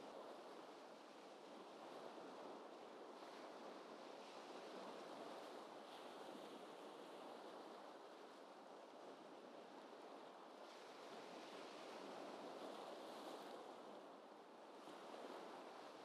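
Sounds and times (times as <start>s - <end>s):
gentle ocean waves: 0.1s - 16.0s.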